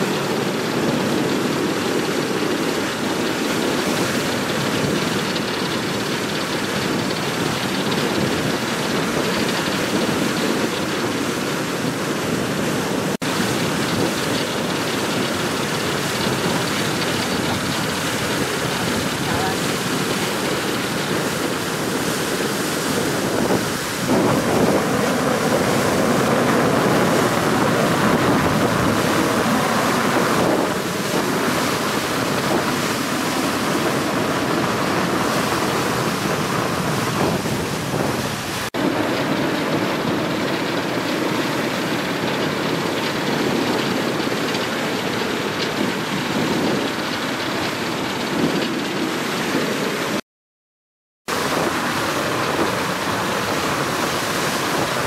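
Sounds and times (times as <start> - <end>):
rushing water roar: 0.0 - 50.2, 51.3 - 55.0
wind on microphone: 0.0 - 50.2, 51.3 - 55.0.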